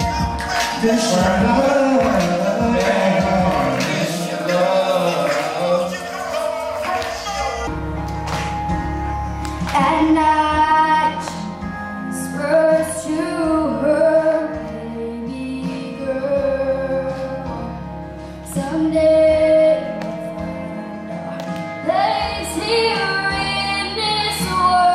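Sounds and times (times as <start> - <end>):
backing music with bass: 0.0 - 24.9.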